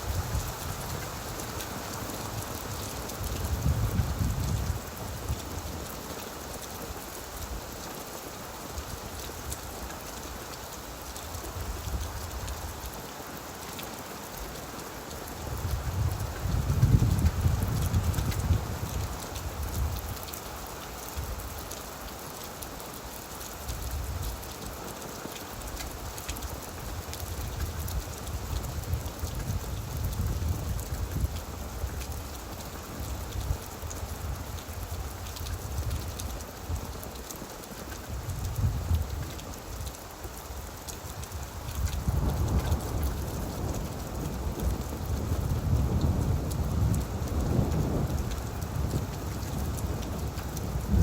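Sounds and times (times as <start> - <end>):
rain falling on leaves: 0.0 - 51.0.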